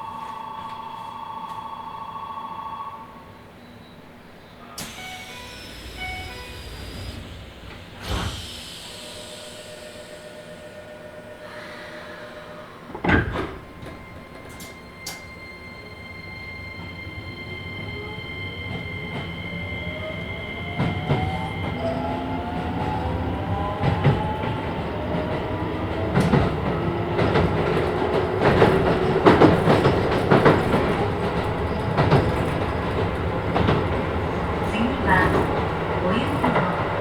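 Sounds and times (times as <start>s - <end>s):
train motor whine: 4.6s - 37.0s.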